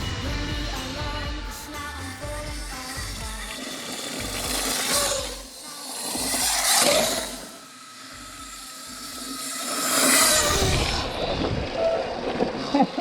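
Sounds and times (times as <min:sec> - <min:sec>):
electric dirt bikes riding by: 0:02.2 - 0:13.0.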